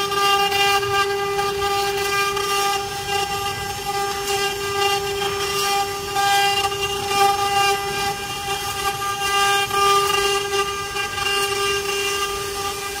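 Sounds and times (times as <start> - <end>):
hiss of wood cutting: 0.0 - 13.0
router spindles whining: 0.0 - 13.0.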